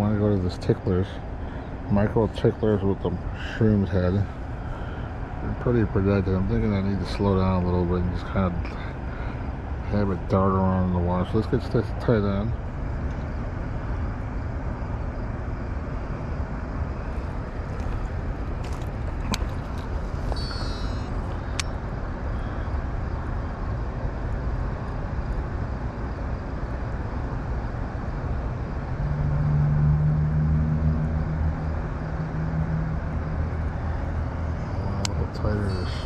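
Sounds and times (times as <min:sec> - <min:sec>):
low steady hum: 0:00.0 - 0:36.0
rushing outdoor noise: 0:00.0 - 0:36.0.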